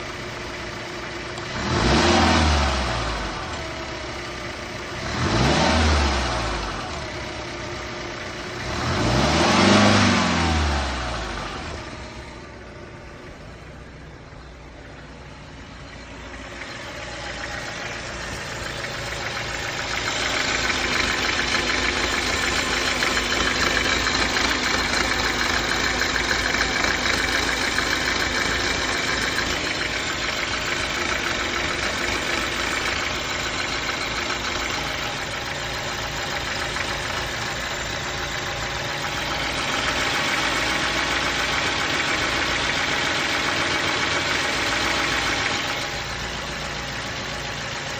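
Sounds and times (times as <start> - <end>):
car engine idling with knocking: 0.0 - 47.9.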